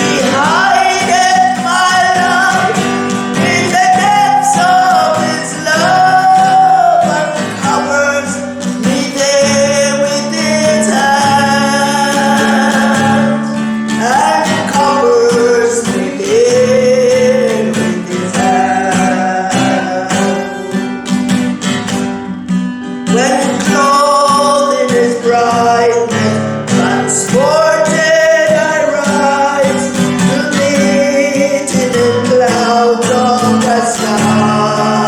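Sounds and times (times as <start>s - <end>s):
person singing a hymn: 0.0s - 20.8s, 23.1s - 35.0s
strummed acoustic guitar: 0.0s - 35.0s.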